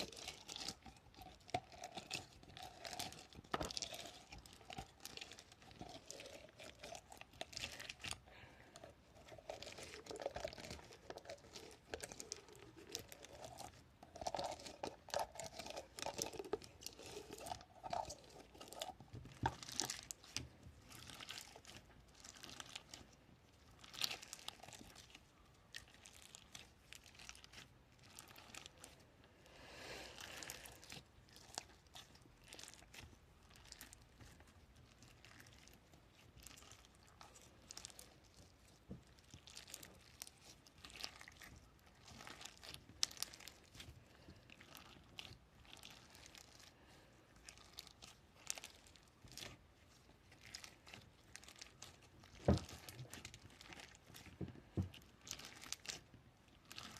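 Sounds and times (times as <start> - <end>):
crinkling and crackling: 0.0 - 56.9.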